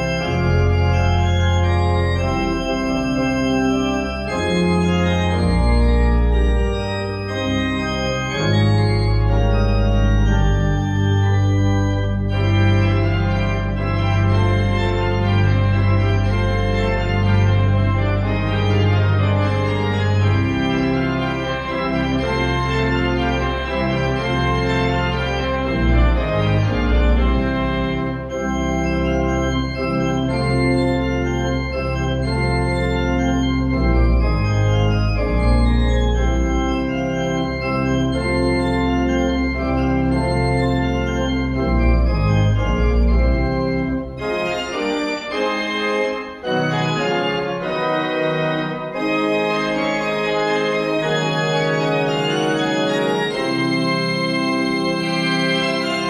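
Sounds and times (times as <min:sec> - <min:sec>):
pipe organ piece with bright melody: 0:00.0 - 0:56.0.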